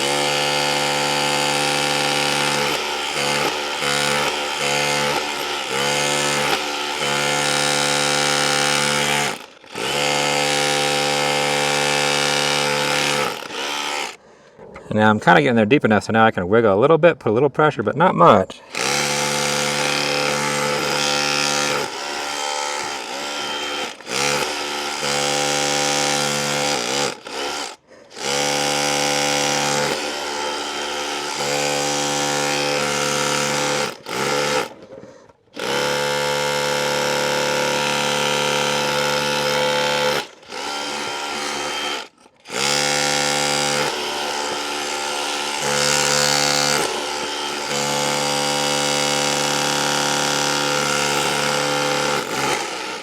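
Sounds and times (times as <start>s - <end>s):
rotary hammer chiselling into wall: 0.0s - 14.2s, 18.8s - 34.9s, 35.6s - 53.0s.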